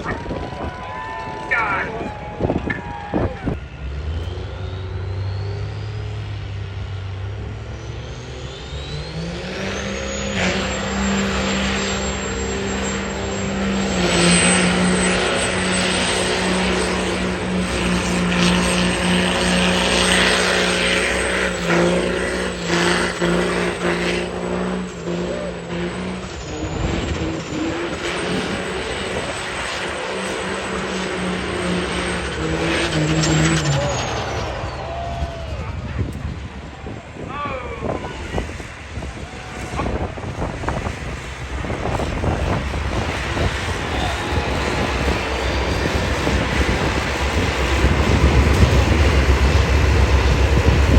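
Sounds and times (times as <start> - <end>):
truck engine running hard: 0.0 - 50.9.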